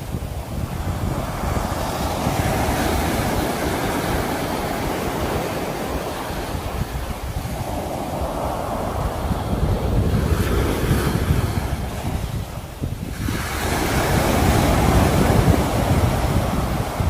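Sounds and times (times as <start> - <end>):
sea waves breaking on shore: 0.0 - 17.0
wind on microphone: 0.0 - 17.0.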